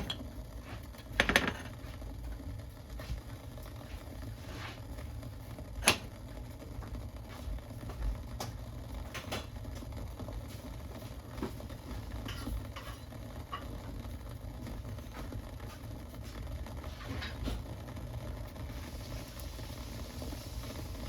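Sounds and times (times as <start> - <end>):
pot of liquid boiling: 0.0 - 21.0.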